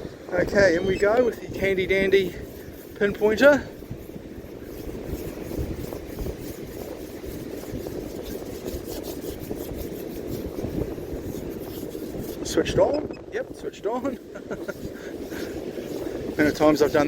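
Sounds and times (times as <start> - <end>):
wind rumble on microphone: 0.0 - 17.0
sand scratching: 0.3 - 17.0.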